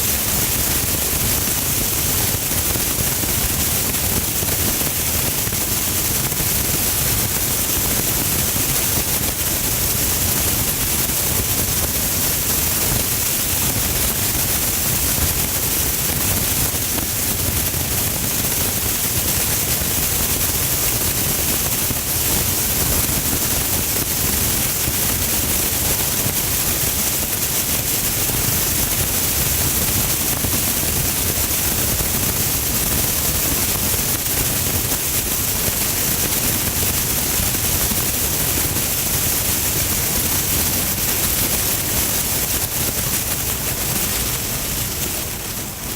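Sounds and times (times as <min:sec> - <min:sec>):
rain: 0:00.0 - 0:45.9.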